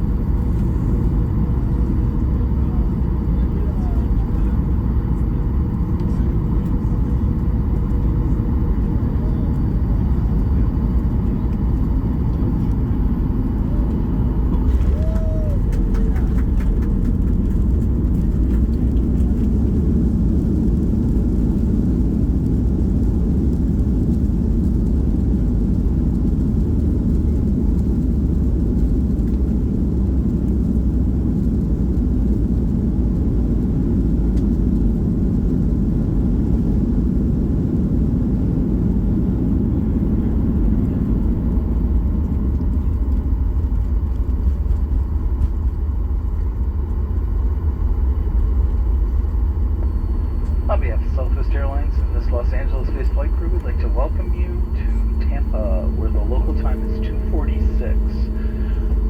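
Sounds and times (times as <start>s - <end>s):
airplane cabin rumble while taxiing: 0.0s - 59.0s.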